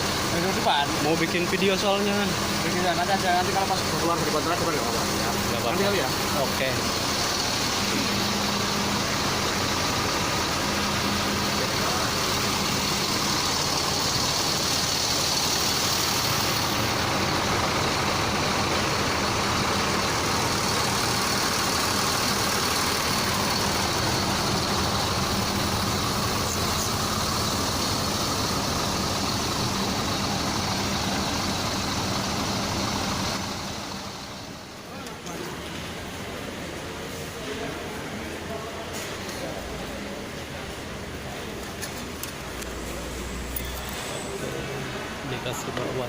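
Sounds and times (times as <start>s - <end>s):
bus engine and road noise: 0.0s - 46.0s.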